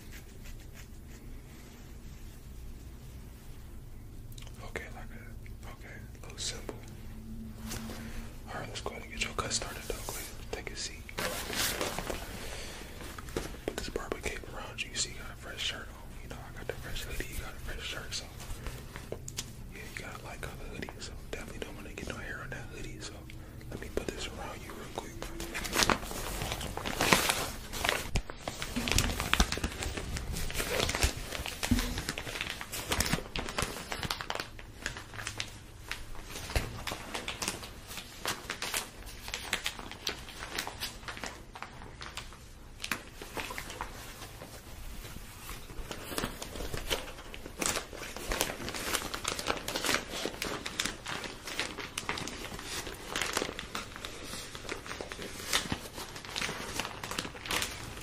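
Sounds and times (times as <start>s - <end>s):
plastic bag crinkling: 7.3s - 58.0s.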